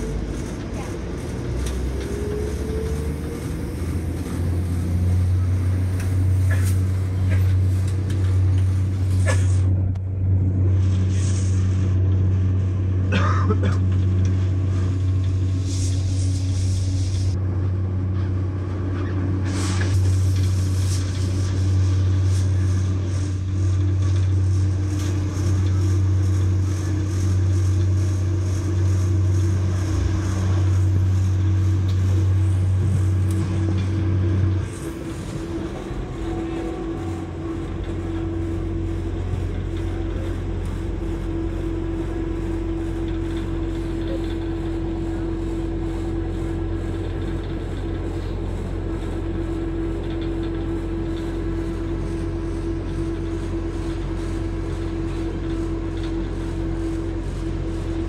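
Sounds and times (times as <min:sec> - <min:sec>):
train clatters: 0:00.0 - 0:10.0, 0:19.8 - 0:58.0
train engine and wheels drone: 0:00.0 - 0:58.0.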